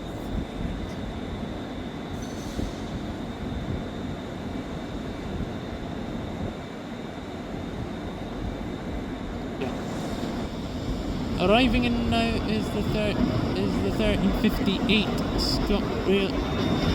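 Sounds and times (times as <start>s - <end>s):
electric train rumbling: 0.0s - 16.9s
high steady whine: 0.0s - 16.9s.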